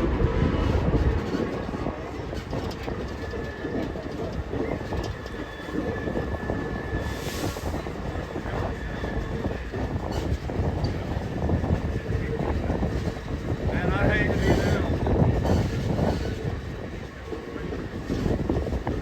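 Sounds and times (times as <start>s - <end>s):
train rumble with wheel clatter: 0.0s - 19.0s.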